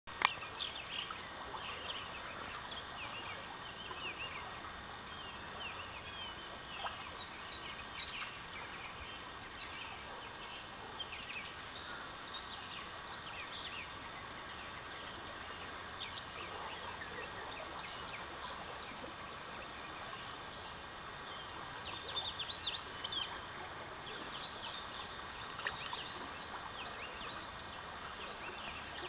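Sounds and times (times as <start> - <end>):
faint steady hiss: 0.1 - 29.0
flock of birds chirping: 0.1 - 29.0.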